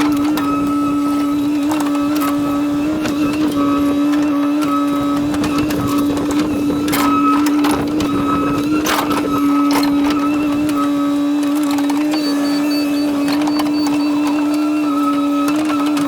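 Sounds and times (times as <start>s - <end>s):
excavator engine and hydraulics whine: 0.0s - 16.0s.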